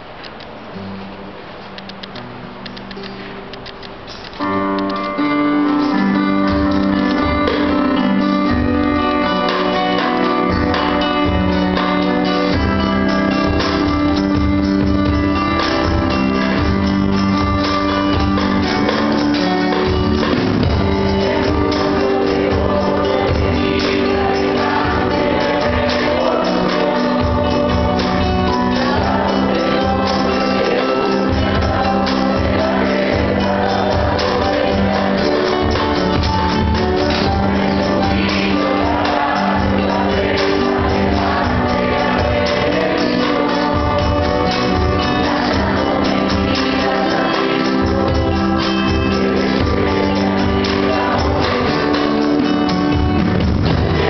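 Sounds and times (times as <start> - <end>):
classical guitar chords: 0.0 - 54.0
group of people singing: 5.6 - 54.0.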